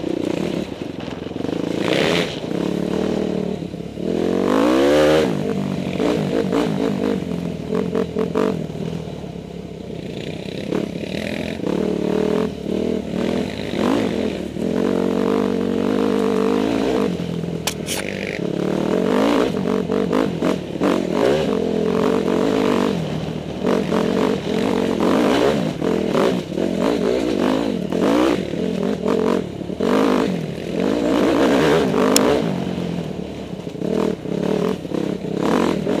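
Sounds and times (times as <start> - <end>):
dirt bike engine revving: 0.0 - 9.0, 10.0 - 36.0.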